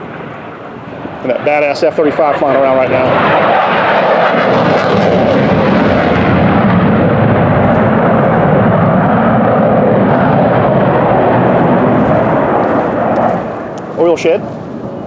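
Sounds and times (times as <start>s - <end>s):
jet engine rumble overhead: 0.0s - 15.0s.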